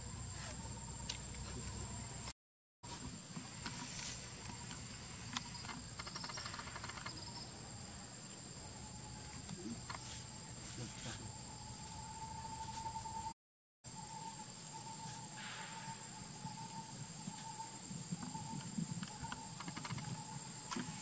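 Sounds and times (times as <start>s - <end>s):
insects buzzing: 0.0s - 2.3s, 2.9s - 21.0s
low steady insect tone: 0.0s - 2.3s, 2.9s - 21.0s
rapid insect trill: 0.0s - 2.3s, 2.9s - 21.0s.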